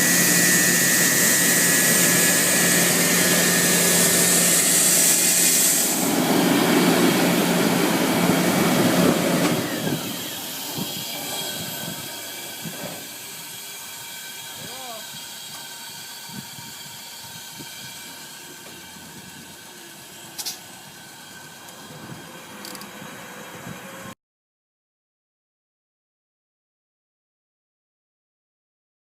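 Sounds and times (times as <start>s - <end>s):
air compressor running with hiss: 0.0s - 24.1s.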